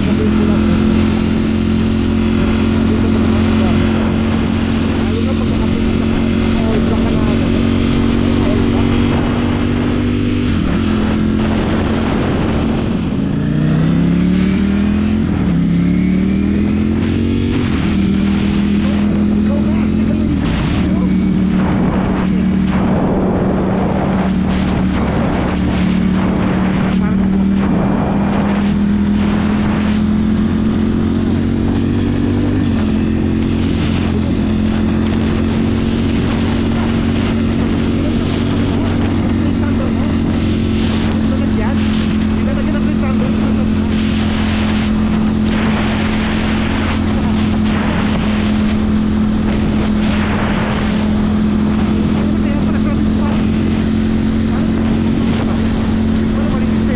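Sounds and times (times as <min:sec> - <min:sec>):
motorcycle engine revving: 0:00.0 - 0:56.9
wind noise: 0:00.0 - 0:56.9.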